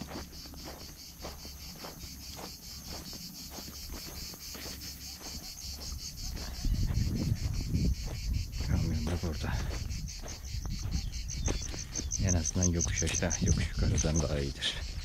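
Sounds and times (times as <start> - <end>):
crickets chirping: 0.0 - 15.0
footsteps on dry soil: 0.0 - 15.0.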